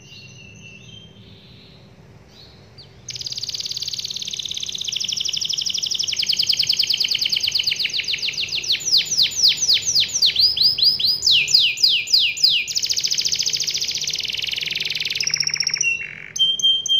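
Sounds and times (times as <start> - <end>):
canary singing: 0.0 - 16.9.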